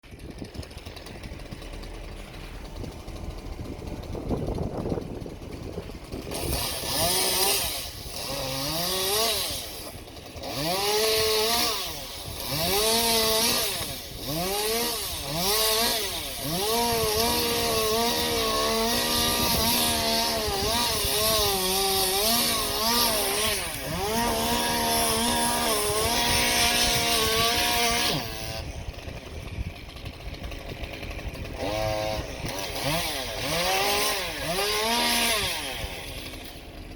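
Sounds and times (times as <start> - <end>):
chainsaw cutting branches: 0.0 - 36.9.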